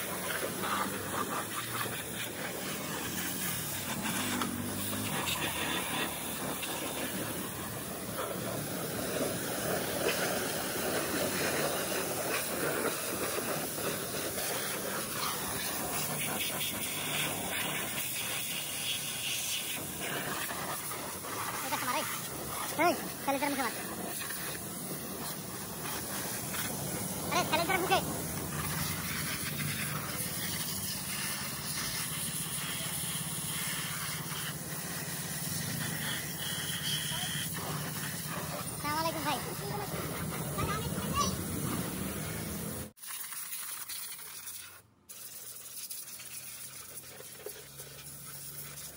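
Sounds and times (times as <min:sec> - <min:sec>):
pressure washer spraying water: 0:00.0 - 0:48.9.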